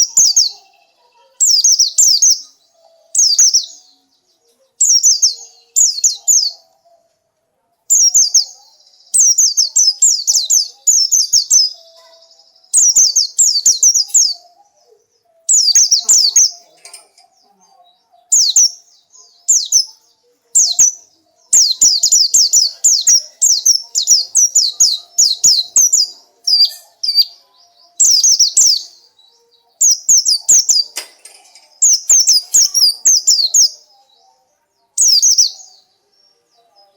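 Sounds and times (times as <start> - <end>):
bird chirping: 0.0 - 36.9.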